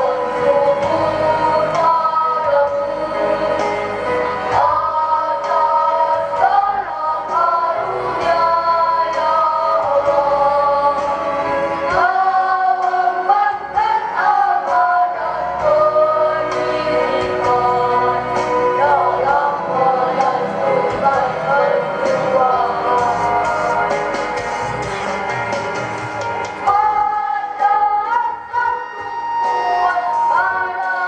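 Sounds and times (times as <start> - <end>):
children's choir singing a hymn: 0.0 - 24.2, 26.6 - 31.0
instrumental backing track: 0.0 - 31.0.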